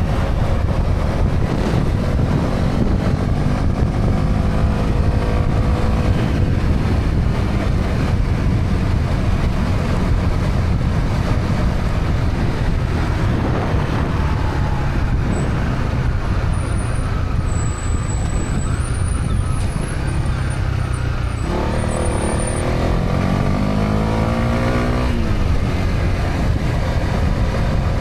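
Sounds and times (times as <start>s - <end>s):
low wind rumble: 0.0s - 28.0s
motorcycle engine running: 0.0s - 28.0s.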